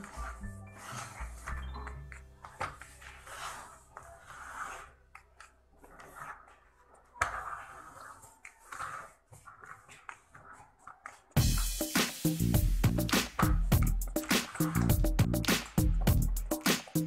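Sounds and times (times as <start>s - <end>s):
plastic toy blocks rubbing and clicking: 0.0s - 1.6s, 2.4s - 11.4s, 13.3s - 17.0s.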